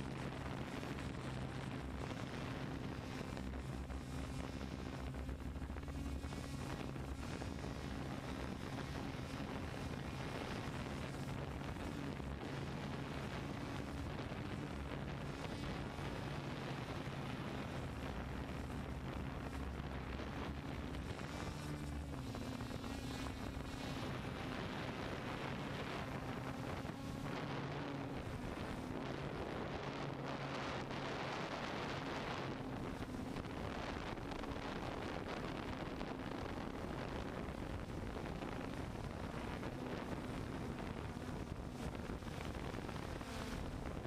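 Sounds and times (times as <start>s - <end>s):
drone motors humming: 0.0s - 44.0s
wind on microphone: 0.0s - 44.0s.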